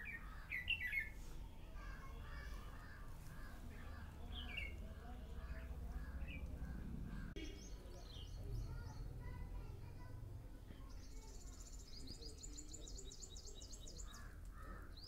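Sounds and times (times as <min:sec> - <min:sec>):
birds chirping: 0:00.0 - 0:10.0, 0:10.7 - 0:15.0.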